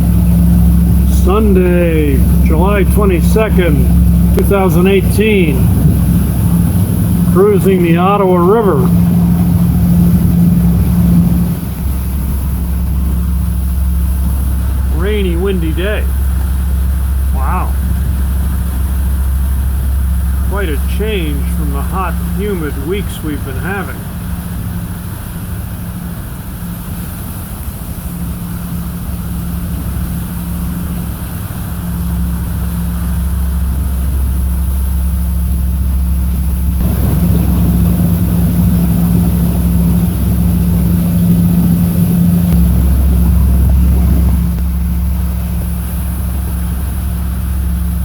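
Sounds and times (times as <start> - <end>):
motorboat engine running: 0.0 - 48.0
water wash noise: 0.0 - 48.0.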